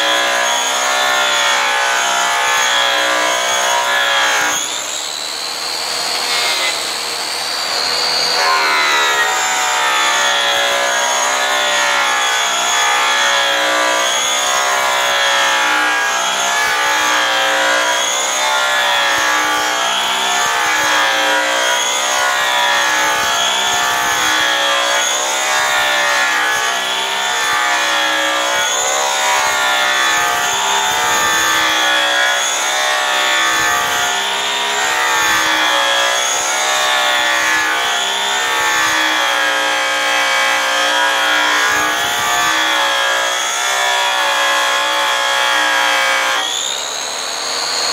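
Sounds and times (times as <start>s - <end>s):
rotary polisher motor whine: 0.0s - 47.9s.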